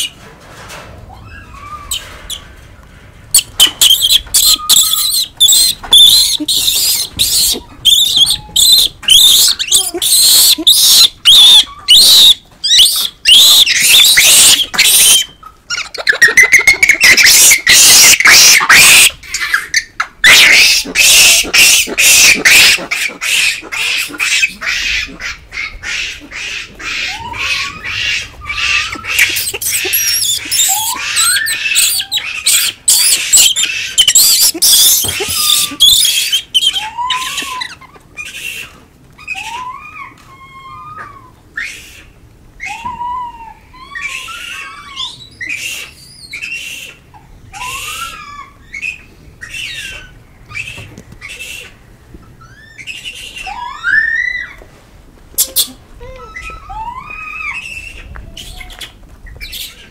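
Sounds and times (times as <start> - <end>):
monkeys squealing and screaming: 1.1 - 2.6, 3.3 - 51.8, 52.4 - 54.6, 55.4 - 59.9.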